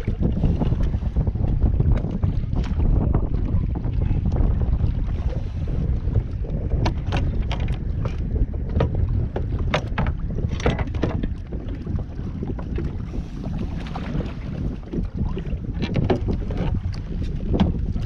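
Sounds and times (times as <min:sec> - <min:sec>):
water slapping against hull: 0:00.0 - 0:18.0
wind buffeting microphone: 0:00.0 - 0:18.0.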